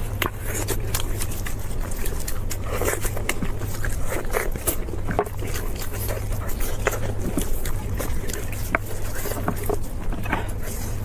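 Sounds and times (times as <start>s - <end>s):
crunching and smacking while chewing: 0.0s - 11.0s
low hum: 0.0s - 11.0s.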